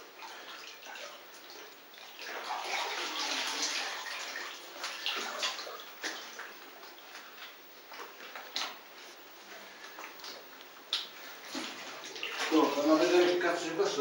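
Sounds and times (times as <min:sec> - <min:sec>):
water splashing and sloshing: 0:00.0 - 0:13.8.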